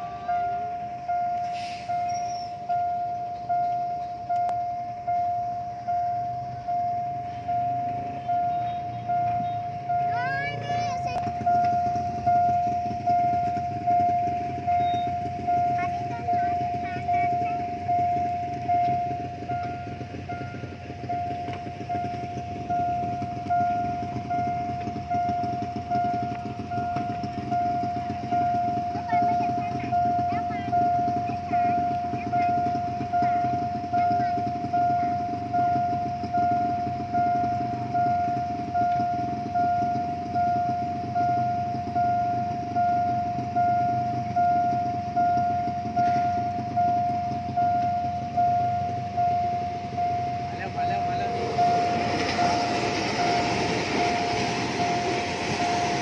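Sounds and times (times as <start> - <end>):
engines idling: 0.0 - 56.0
level crossing warning bell ringing: 0.0 - 56.0.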